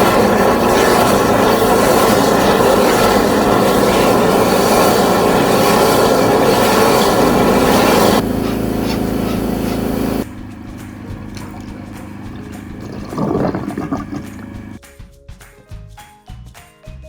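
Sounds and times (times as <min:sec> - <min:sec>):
high-pressure water jet hiss: 0:00.0 - 0:14.7
engine hum: 0:00.0 - 0:14.8.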